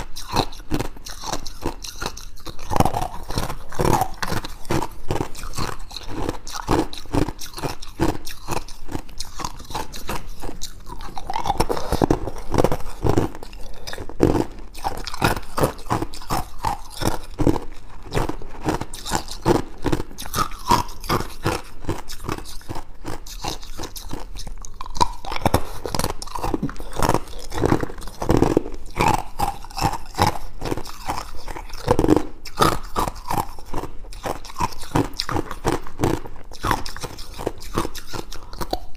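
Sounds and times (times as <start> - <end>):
ice cubes crunching: 0.1 - 38.9.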